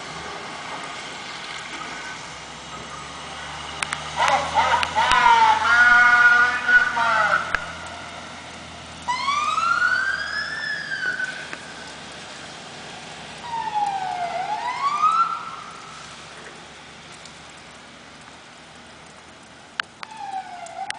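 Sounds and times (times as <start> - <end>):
fire truck siren wailing: 0.0 - 19.2, 20.0 - 20.9.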